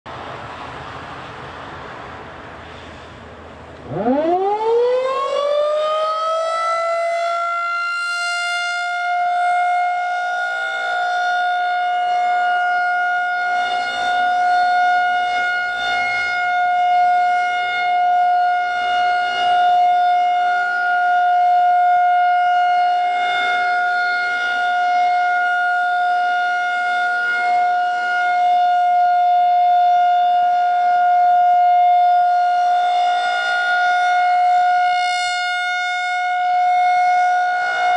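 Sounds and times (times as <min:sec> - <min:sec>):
outdoor warning siren: 0:03.5 - 0:37.9.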